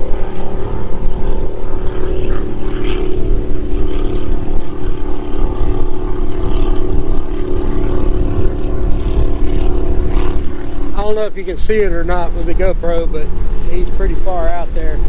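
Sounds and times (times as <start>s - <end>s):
distant watercraft engine drone: 0.0s - 15.0s
wind buffeting microphone: 0.0s - 15.0s.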